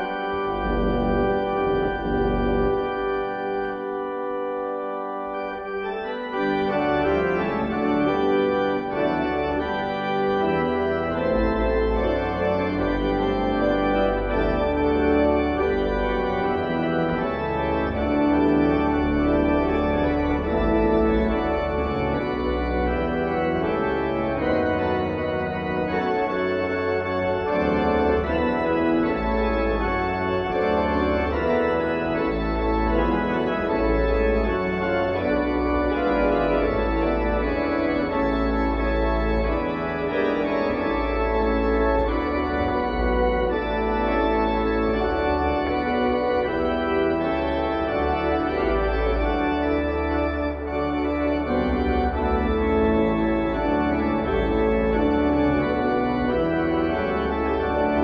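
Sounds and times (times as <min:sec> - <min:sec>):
deep organ bass notes: 0:00.0 - 0:58.0
organ playing sustained chords: 0:00.0 - 0:58.0.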